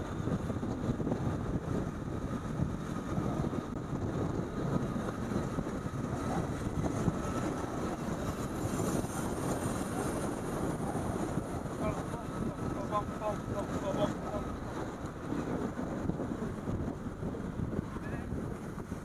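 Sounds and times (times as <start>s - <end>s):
road and traffic noise: 0.0s - 19.0s
wind on microphone: 0.0s - 19.0s.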